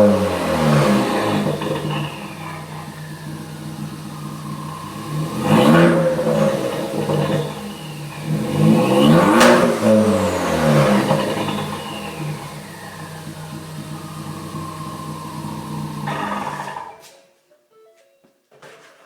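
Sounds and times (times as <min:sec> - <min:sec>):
car engine revving: 0:00.0 - 0:17.0
exhaust pop: 0:00.0 - 0:17.0.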